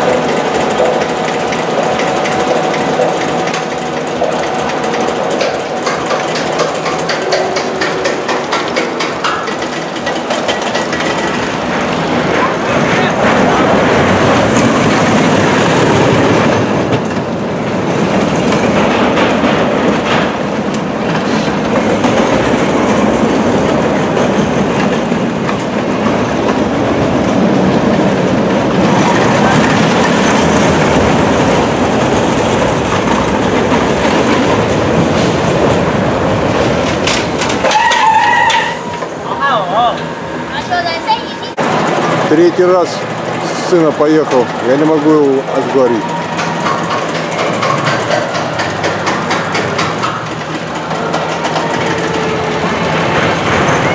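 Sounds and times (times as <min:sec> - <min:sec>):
roller coaster train rumbling on track: 0:00.0 - 0:53.9.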